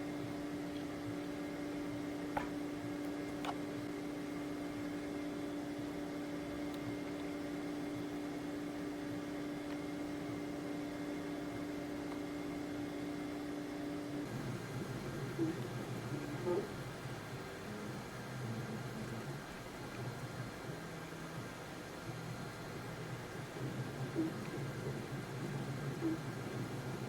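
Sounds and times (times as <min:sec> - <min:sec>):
printer humming with steady tone: 0:00.0 - 0:27.0.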